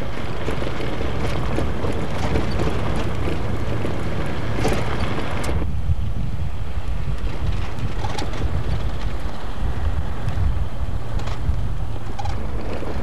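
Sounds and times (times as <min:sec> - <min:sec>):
vehicle rumbling over dirt track: 0:00.0 - 0:13.0
wind buffeting microphone: 0:00.0 - 0:13.0.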